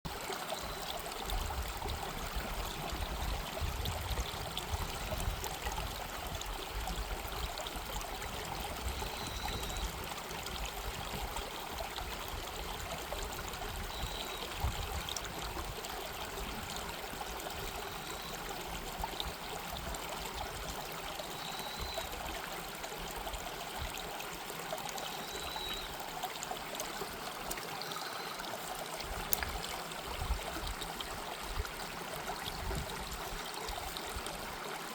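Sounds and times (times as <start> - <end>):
stream rushing water: 0.1 - 34.9.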